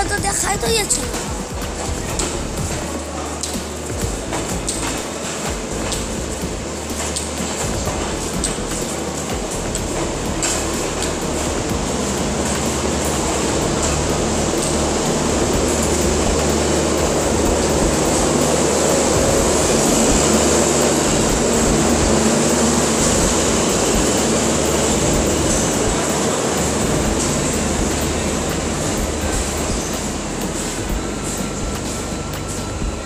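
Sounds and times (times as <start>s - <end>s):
train rumbling past: 0.0s - 33.0s
train wheel clicks: 0.0s - 33.0s.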